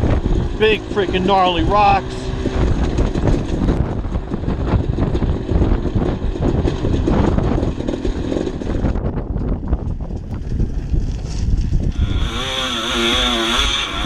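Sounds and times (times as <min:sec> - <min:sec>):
dirt bike engine running: 0:00.0 - 0:14.0
wind on microphone: 0:00.0 - 0:14.0.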